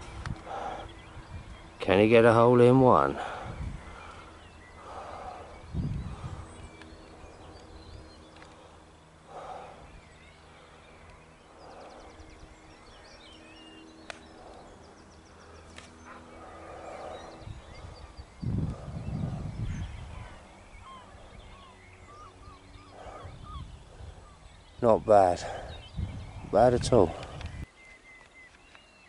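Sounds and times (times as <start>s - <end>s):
distant bird calls: 0.0s - 29.0s.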